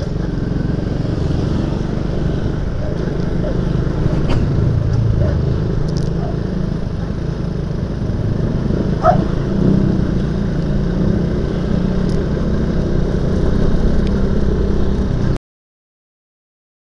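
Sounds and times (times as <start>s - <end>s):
road noise: 0.0s - 15.4s
scooter engine cruising: 0.0s - 15.4s.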